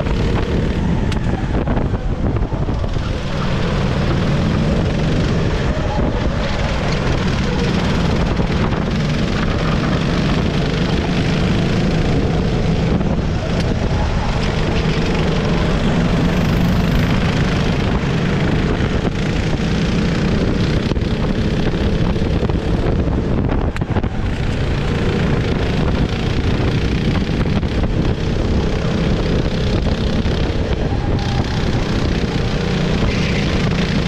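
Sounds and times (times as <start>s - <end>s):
kart engine racing: 0.0s - 34.0s
wind noise on microphone: 0.0s - 34.0s.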